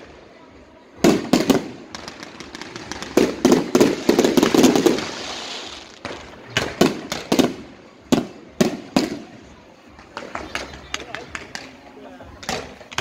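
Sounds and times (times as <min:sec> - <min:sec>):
fireworks bangs: 0:00.0 - 0:11.6
fireworks crackling: 0:00.0 - 0:13.0.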